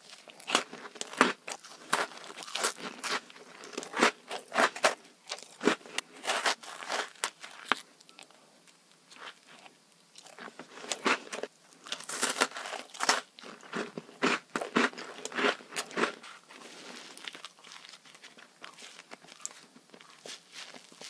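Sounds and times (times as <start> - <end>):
crunchy sweets being chewed: 0.0 - 21.0.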